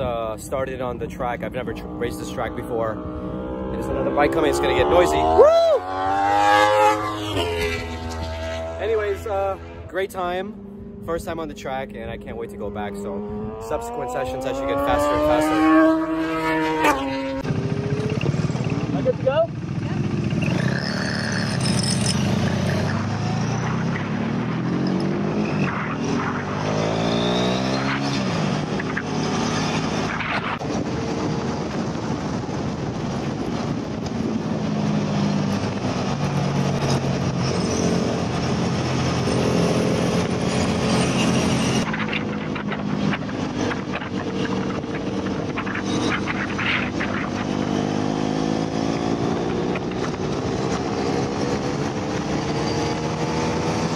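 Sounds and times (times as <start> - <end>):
wind rush on microphone: 0.0 - 20.5, 24.1 - 53.9
motorcycle engine revving: 0.0 - 53.9.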